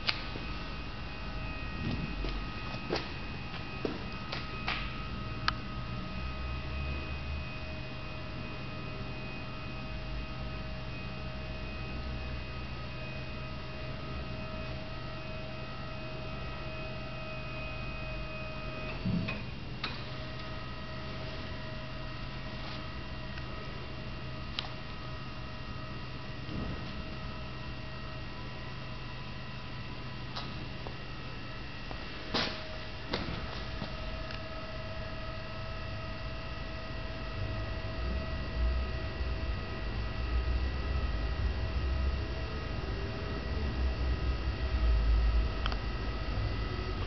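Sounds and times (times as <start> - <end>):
high whine: 0.0 - 47.0
steady electrical hum: 0.0 - 47.0.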